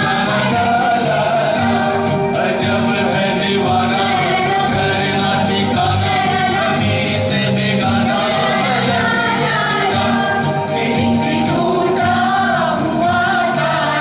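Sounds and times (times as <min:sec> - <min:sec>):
instrumental accompaniment: 0:00.0 - 0:14.0
percussion beat: 0:00.0 - 0:14.0
person singing: 0:00.0 - 0:14.0.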